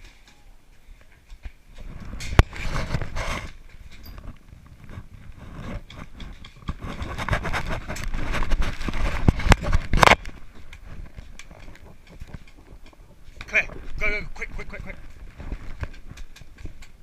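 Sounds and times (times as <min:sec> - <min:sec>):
clothing rustling on microphone: 0:01.7 - 0:16.7.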